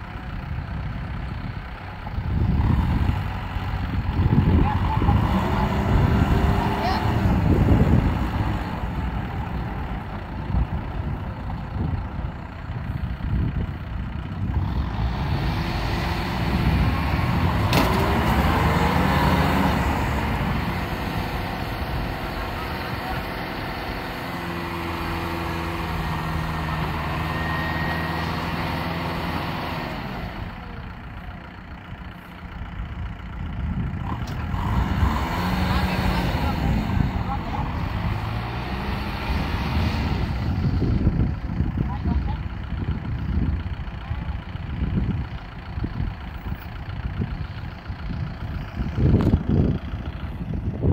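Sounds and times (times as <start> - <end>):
tractor diesel engine labouring: 0.0 - 50.9.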